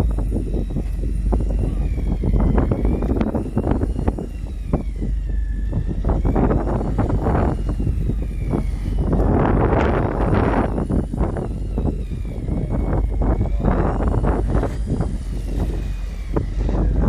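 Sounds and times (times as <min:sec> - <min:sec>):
boat engine rumbling: 0:00.0 - 0:17.0
faint high whine: 0:00.0 - 0:17.0
water noise: 0:00.0 - 0:17.0
wind noise: 0:00.0 - 0:17.0.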